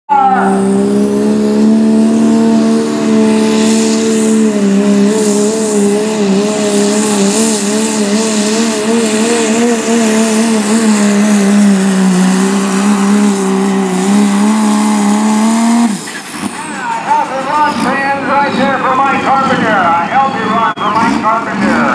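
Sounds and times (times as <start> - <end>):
diesel engine at full throttle: 0.1 - 21.9.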